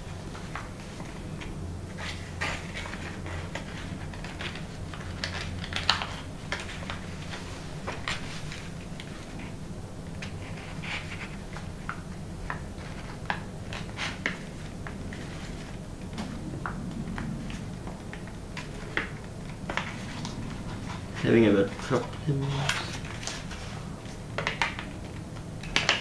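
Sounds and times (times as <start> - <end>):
faint low hum: 0.0 - 26.0
paper clicks and rustles: 0.4 - 16.4, 17.1 - 26.0.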